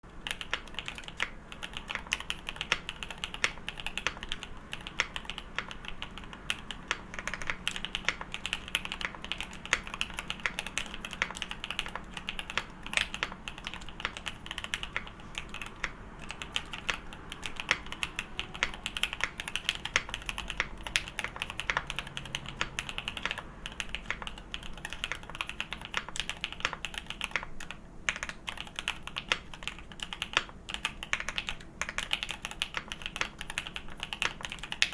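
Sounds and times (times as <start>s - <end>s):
mechanical keyboard typing: 0.1s - 34.9s.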